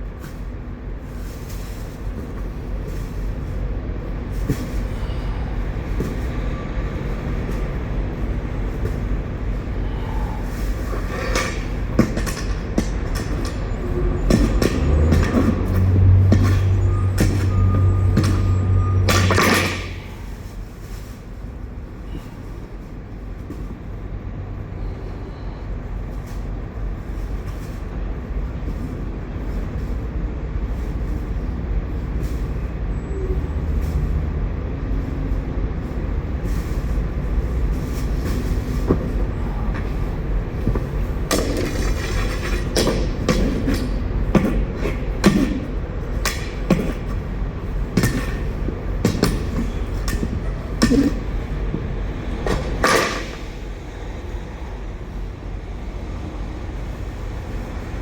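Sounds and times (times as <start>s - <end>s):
knocks and scrapes in trailer: 0.0s - 24.1s, 25.8s - 58.0s
truck engines rumbling: 0.0s - 58.0s.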